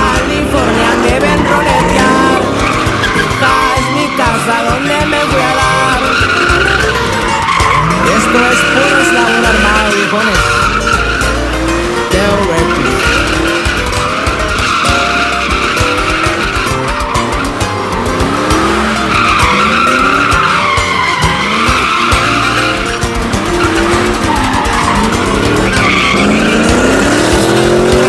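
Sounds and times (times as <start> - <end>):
music playing: 0.0 - 28.0
tires squealing and skidding: 0.0 - 28.0.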